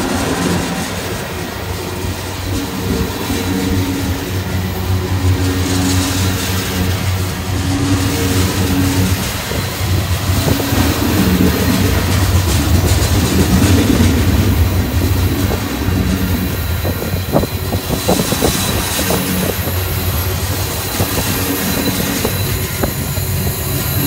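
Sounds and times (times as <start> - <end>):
train wheels rumbling on rails: 0.0 - 24.0
wheels clacking over rail joints: 0.0 - 24.0.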